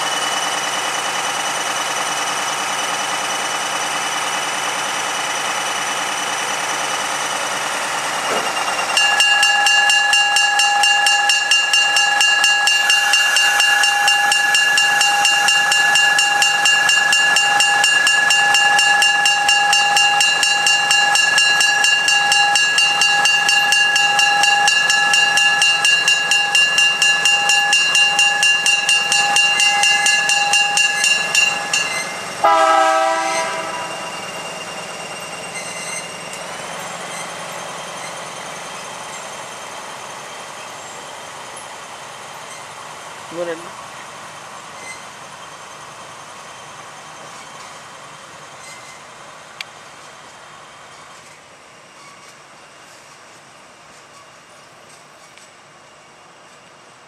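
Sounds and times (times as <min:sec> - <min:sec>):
train wheels squealing on rail: 0:00.0 - 0:43.6, 0:44.6 - 0:49.2, 0:50.8 - 0:57.0.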